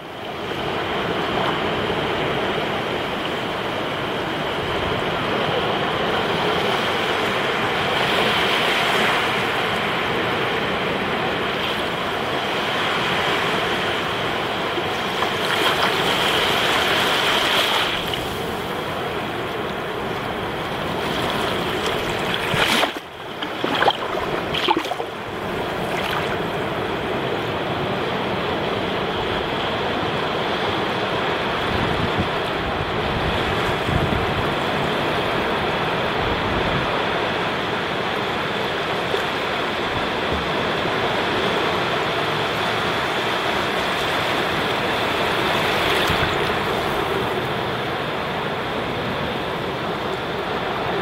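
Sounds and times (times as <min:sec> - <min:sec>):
waves washing over sand: 0:00.0 - 0:51.0.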